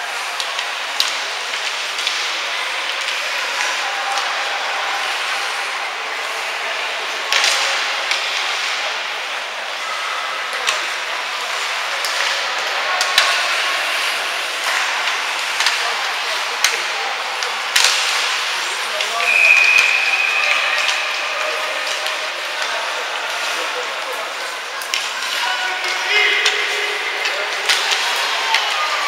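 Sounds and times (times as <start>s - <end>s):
hockey sticks clacking: 0.2s - 5.6s, 6.2s - 9.9s, 10.5s - 29.0s.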